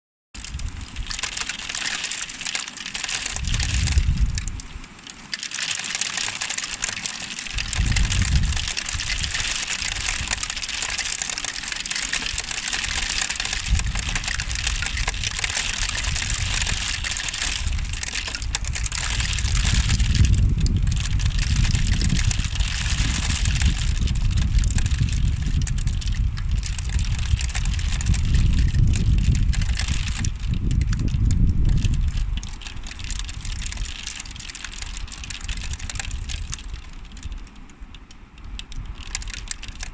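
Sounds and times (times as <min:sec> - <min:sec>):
wind gusts on microphone: 0:00.4 - 0:01.8, 0:03.1 - 0:05.0, 0:07.2 - 0:37.5
rain hissing: 0:00.4 - 0:39.9.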